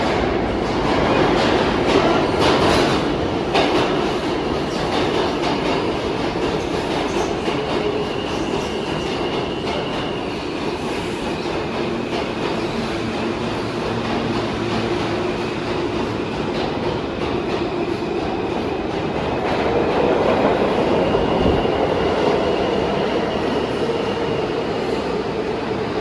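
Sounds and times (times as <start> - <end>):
train wheels clacking: 0.0 - 25.9
train rumble: 0.0 - 26.0.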